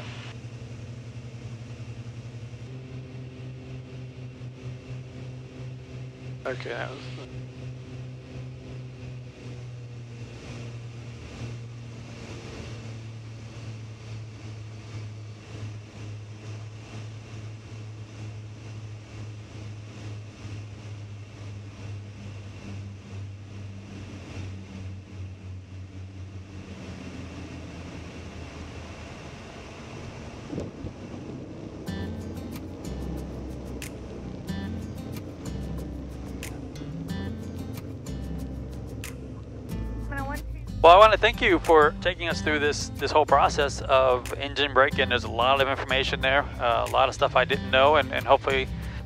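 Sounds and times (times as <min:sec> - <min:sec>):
propeller engines droning: 0:00.0 - 0:49.0.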